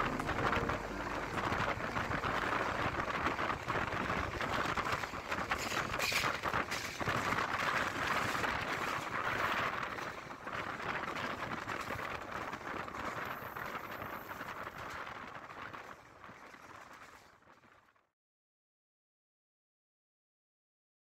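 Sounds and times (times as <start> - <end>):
train wheel and wind rush: 0.0 - 17.4
wheels clicking over rails: 0.0 - 17.4.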